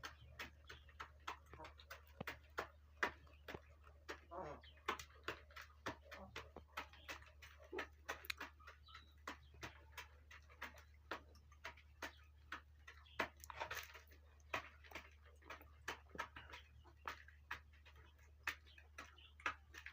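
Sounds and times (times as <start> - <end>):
chickens pecking on feed bag: 0.0 - 19.9.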